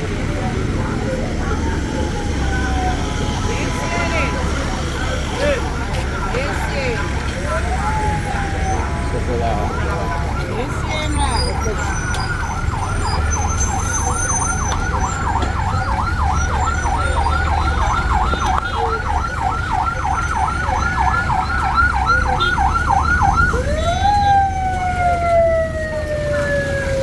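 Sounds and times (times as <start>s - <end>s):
emergency vehicle siren: 0.0s - 27.0s
street traffic rumble: 0.0s - 27.0s.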